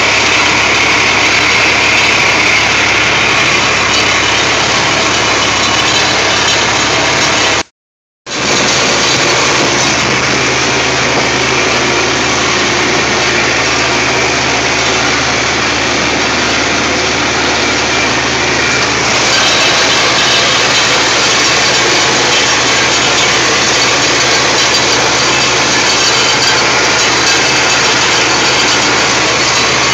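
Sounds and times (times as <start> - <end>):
tractor engine and baler drone: 0.0 - 7.7, 8.3 - 29.9.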